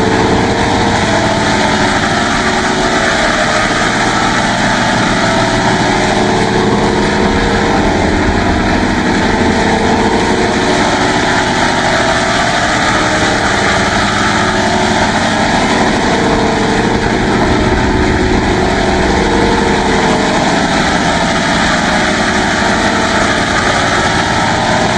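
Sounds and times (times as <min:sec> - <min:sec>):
synthesized engine-like drone: 0:00.0 - 0:24.9.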